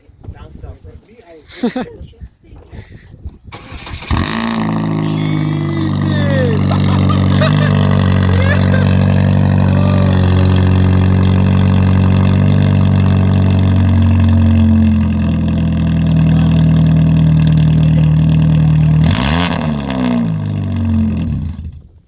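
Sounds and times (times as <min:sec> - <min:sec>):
loud car engine running: 0:03.6 - 0:21.8.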